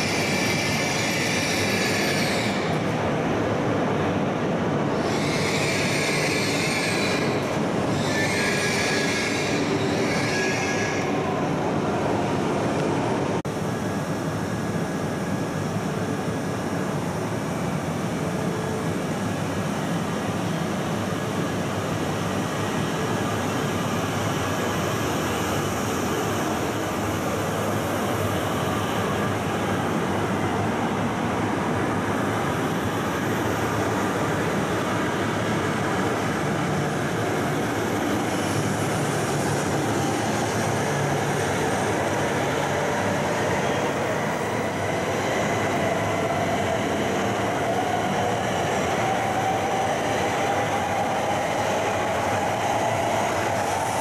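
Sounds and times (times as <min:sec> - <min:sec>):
train rolling slowly: 0:00.0 - 0:54.0.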